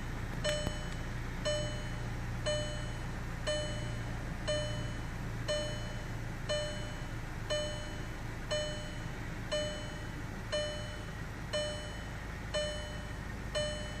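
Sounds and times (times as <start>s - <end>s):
car engine humming: 0.0s - 14.0s
dashboard warning chime: 0.4s - 14.0s.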